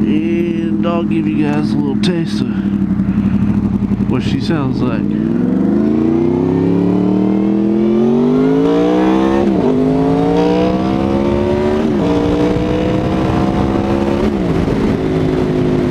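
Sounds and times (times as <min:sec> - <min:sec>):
motorcycle engine accelerating: 0:00.0 - 0:15.9.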